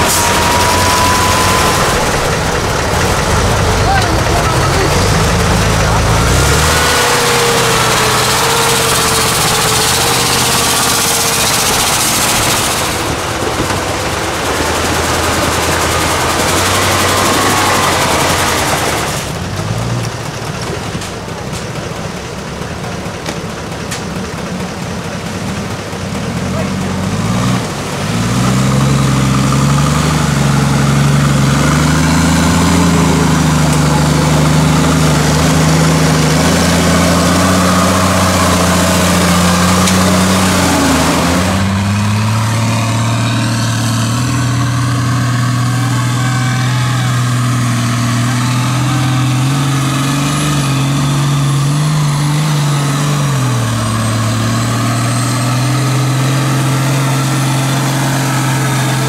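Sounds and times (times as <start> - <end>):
truck engine running steadily: 0.0 - 59.0
truck engines revving in mud: 0.0 - 59.0.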